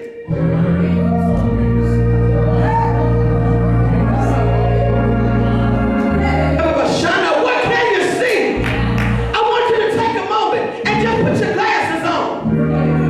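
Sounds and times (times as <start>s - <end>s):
organ chords: 0.0s - 13.0s
voices singing: 0.0s - 13.0s.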